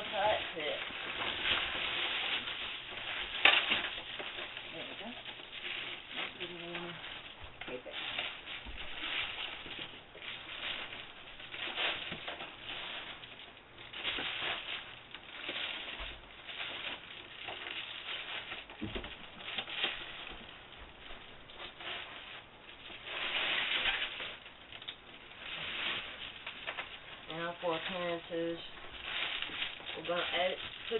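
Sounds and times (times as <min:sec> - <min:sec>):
foil and tape crinkling: 0:00.0 - 0:30.9.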